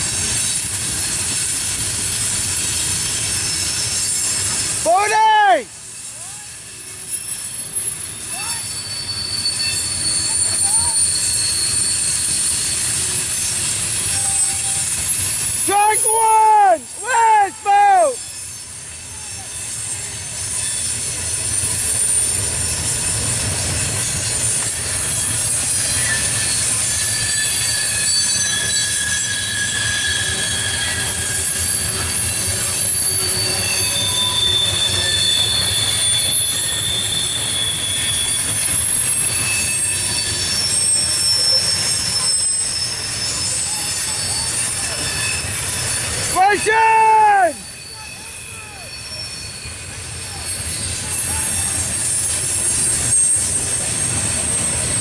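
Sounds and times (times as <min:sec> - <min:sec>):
high thin wheel squeals: 0:00.0 - 0:55.0
rumble of train wheels on rail: 0:00.0 - 0:55.0.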